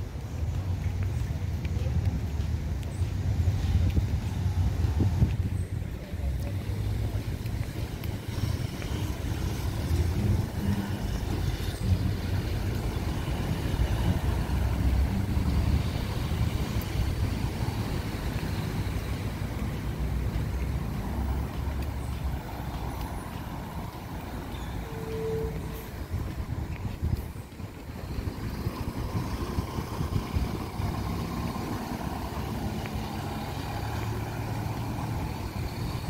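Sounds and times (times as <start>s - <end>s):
bus engine running: 0.0s - 36.0s
street traffic: 0.0s - 36.0s.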